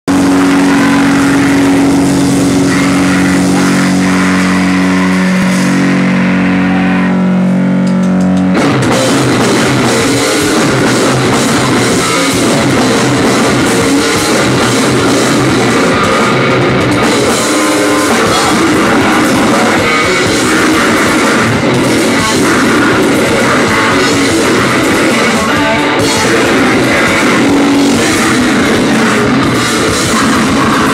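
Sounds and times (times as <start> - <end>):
distorted electric guitar: 0.0 - 30.9
fast dense drumming: 0.1 - 6.4, 8.2 - 30.9.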